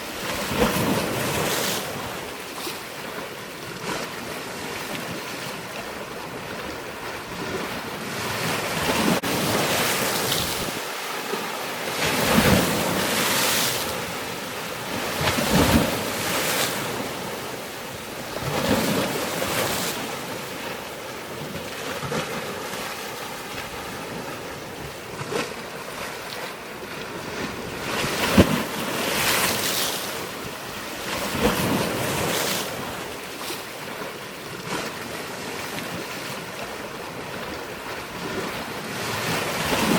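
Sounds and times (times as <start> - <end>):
water washing in surges: 0.0 - 39.9.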